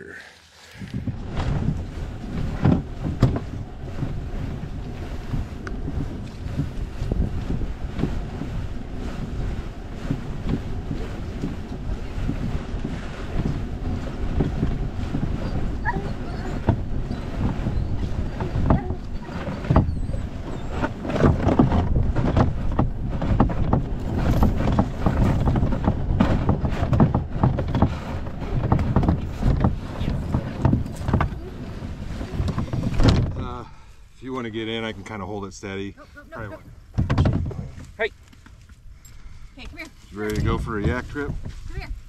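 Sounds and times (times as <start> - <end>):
kayak scraping over grass: 0.0 - 42.0
stalks crackling and knocks: 1.0 - 33.6, 36.9 - 38.8, 39.6 - 42.0.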